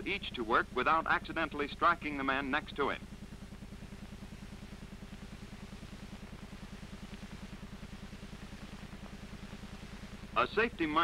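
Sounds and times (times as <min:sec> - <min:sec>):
faint steady tone: 0:00.0 - 0:11.0
low pulsing hum: 0:00.0 - 0:11.0.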